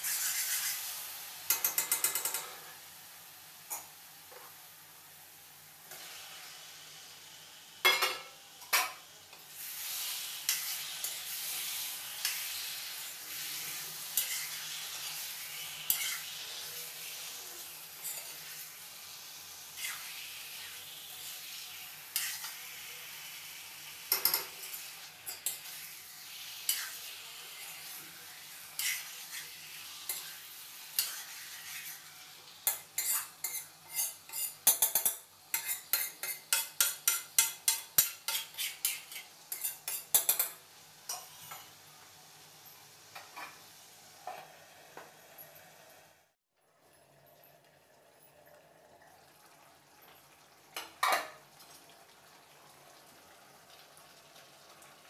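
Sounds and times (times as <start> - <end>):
chicken sizzling in hot oil: 0.0 - 55.0.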